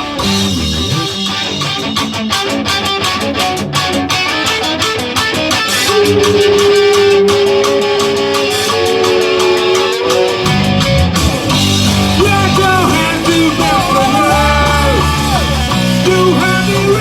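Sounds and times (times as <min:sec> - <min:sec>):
electric guitar: 0:00.0 - 0:17.0
rock band music: 0:00.0 - 0:17.0
steady drum beat: 0:00.0 - 0:17.0.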